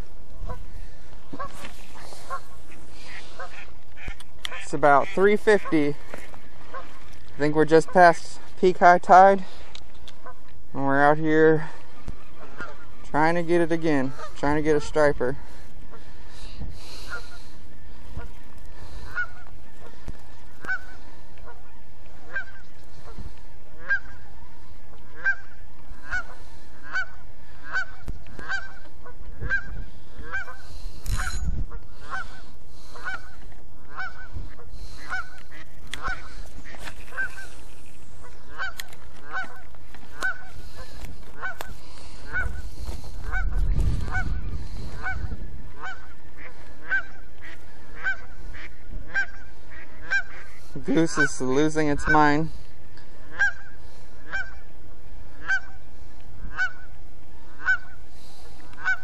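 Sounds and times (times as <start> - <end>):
goose honking: 0.4 - 9.6, 10.2 - 59.0.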